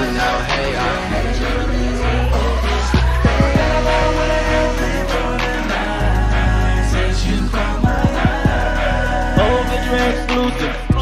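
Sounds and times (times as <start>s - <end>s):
hip-hop instrumental with deep bass: 0.0s - 11.0s.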